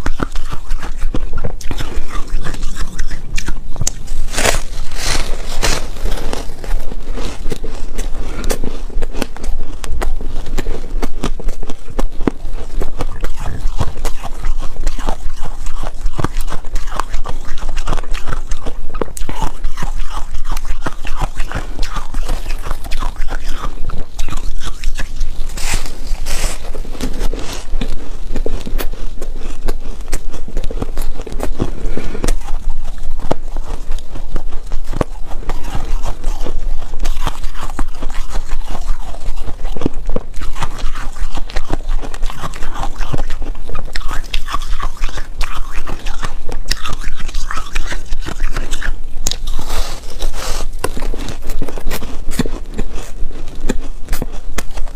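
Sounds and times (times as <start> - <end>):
chewing and crunching ice: 0.0 - 54.9.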